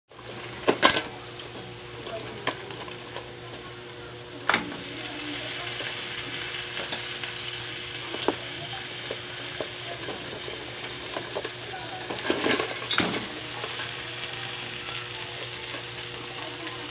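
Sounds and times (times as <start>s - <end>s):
hot oil sizzling in a wok: 0.1s - 16.9s.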